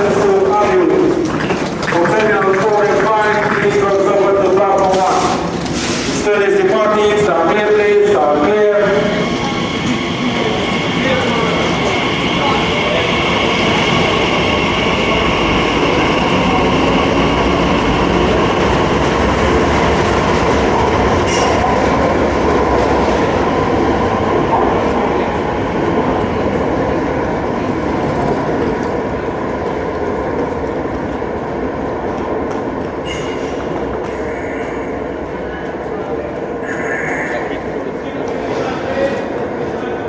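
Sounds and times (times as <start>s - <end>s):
electric train rumbling on rails: 0.0s - 40.0s.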